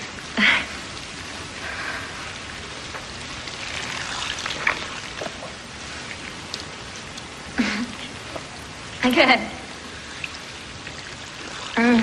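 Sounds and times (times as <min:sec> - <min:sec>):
faint drips: 0:00.0 - 0:12.0
steady rain: 0:00.0 - 0:12.0.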